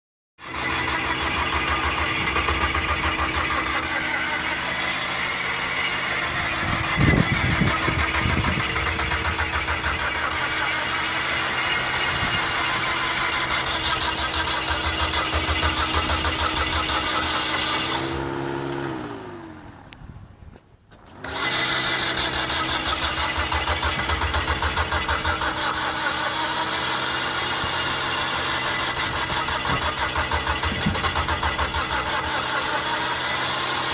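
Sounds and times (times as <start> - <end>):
starter cranking engine: 0.4 - 19.3, 21.1 - 33.9.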